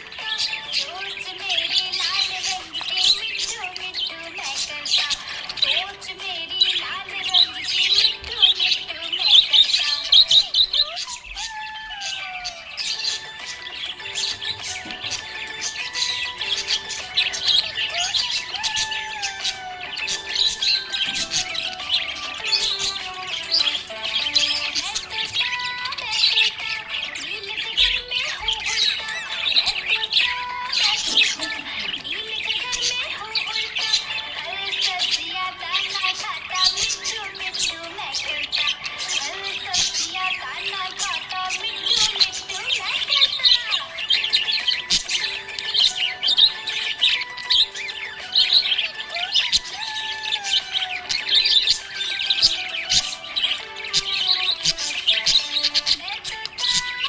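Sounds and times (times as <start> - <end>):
background music: 0.0 - 57.0
budgies chirping: 0.0 - 57.0.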